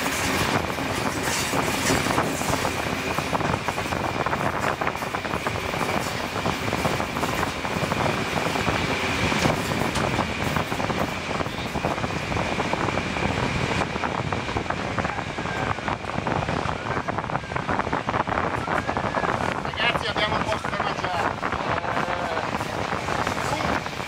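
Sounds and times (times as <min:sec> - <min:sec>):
train wheels on rails: 0:00.0 - 0:24.0
wind rushing over microphone: 0:00.0 - 0:24.0.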